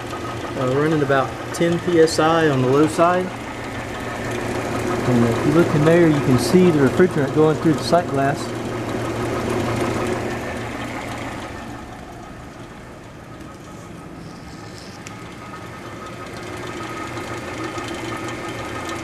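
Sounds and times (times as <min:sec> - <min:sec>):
refrigerator compressor humming: 0:00.0 - 0:19.0.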